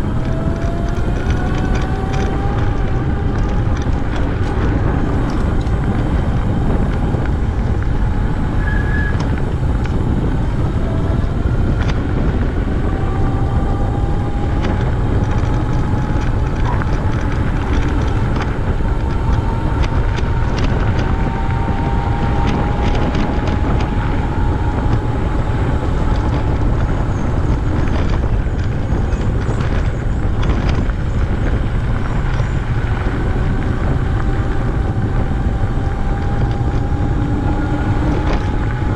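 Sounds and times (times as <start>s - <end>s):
small clicks and rattles: 0.0s - 38.9s
wind rumble on microphone: 0.0s - 38.9s.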